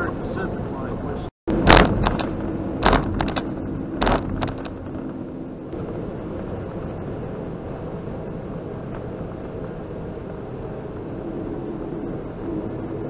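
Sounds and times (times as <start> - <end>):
truck engine and tyres: 0.0 - 13.0.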